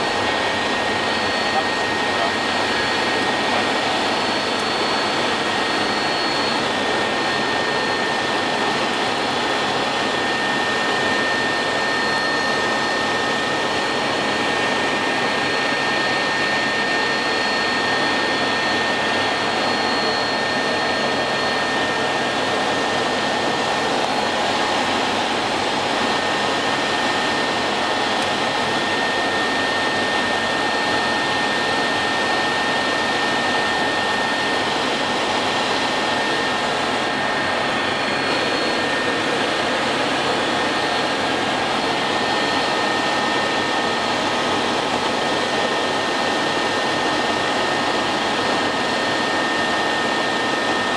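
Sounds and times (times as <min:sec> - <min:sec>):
constant high whine: 0:00.0 - 0:50.9
helicopter cabin rotor noise: 0:00.0 - 0:50.9.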